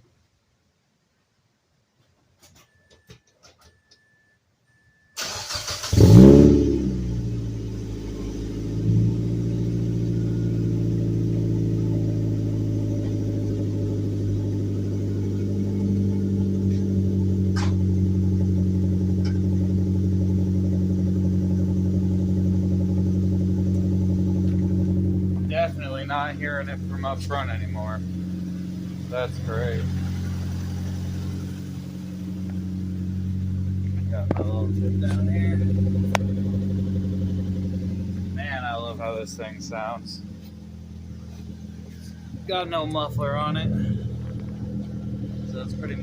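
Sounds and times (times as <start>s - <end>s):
car engine starting and idling: 2.6s - 46.0s.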